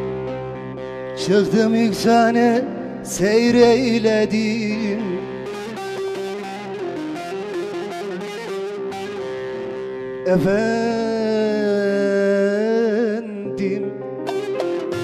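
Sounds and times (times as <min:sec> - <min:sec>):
plucked lute folk music: 0:00.0 - 0:11.4, 0:13.5 - 0:15.0.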